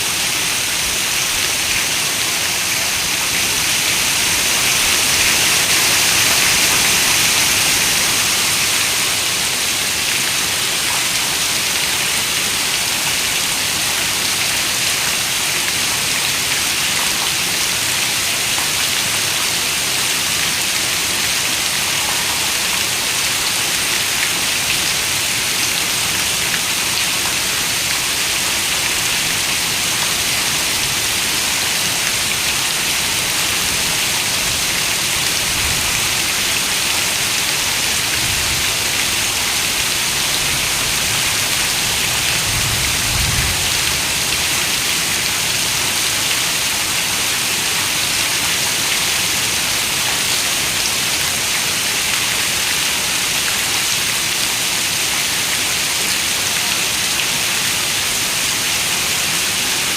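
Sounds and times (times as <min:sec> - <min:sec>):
heavy rain on a window: 0:00.2 - 0:59.9.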